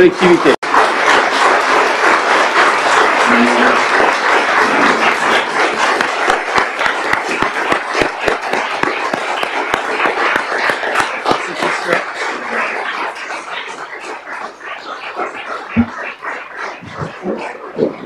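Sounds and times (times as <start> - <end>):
hand clapping applause: 0.0 - 18.0.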